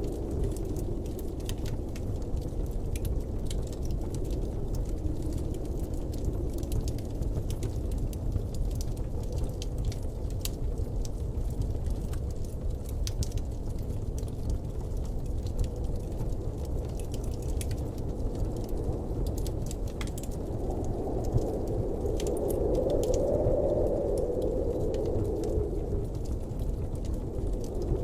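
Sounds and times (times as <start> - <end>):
blizzard wind blowing: 0.0 - 28.0
light ticks and clicks: 0.0 - 28.0.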